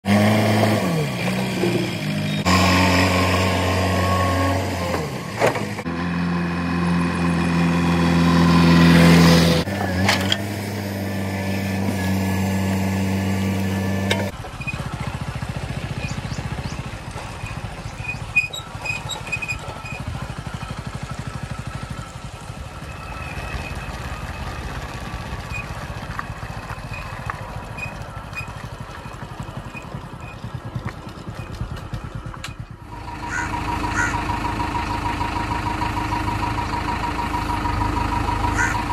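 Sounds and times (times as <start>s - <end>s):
diesel engine revving: 0.0s - 38.9s
motorcycle engine running: 0.0s - 38.9s.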